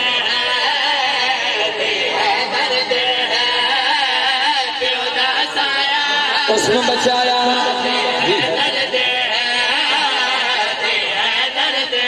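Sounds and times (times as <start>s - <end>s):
man singing a chanted melody: 0.0s - 12.0s.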